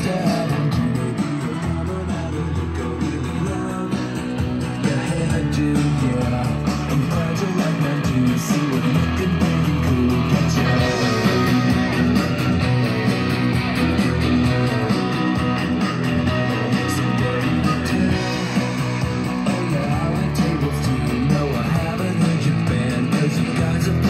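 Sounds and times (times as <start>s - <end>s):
guitar-led music over speakers: 0.0s - 24.0s.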